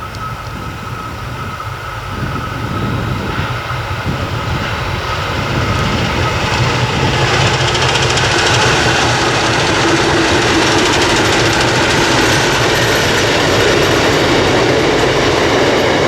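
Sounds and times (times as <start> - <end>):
diesel locomotive engine hum: 0.0 - 16.0.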